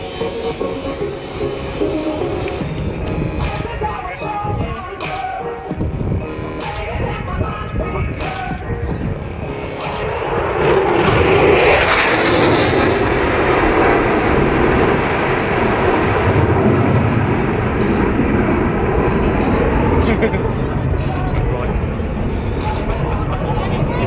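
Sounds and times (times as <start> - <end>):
jet roar: 0.0 - 24.0.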